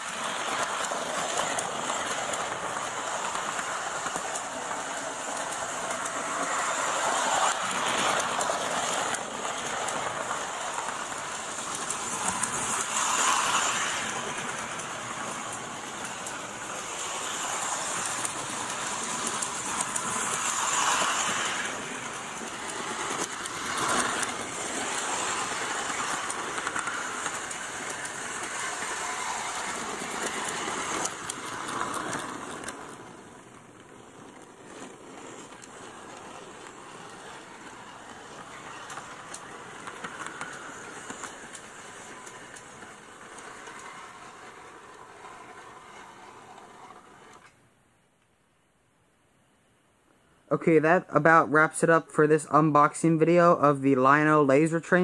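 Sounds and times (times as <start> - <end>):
model train motor humming: 0.0 - 33.2, 34.1 - 47.4
wheels clattering over rails: 0.0 - 47.6.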